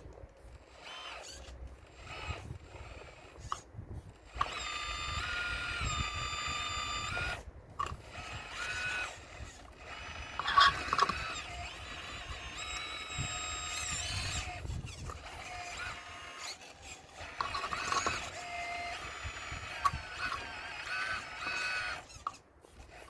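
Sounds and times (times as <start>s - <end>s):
model excavator motors whining: 0.0s - 23.0s.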